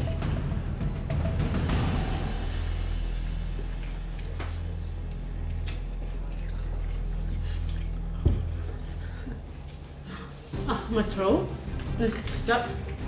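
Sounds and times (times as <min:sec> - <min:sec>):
steady low drone: 0:00.0 - 0:13.0.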